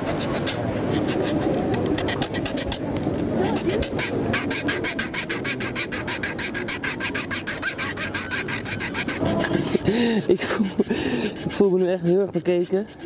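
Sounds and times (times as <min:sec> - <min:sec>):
saw rasping through metal lock: 0:00.0 - 0:13.0.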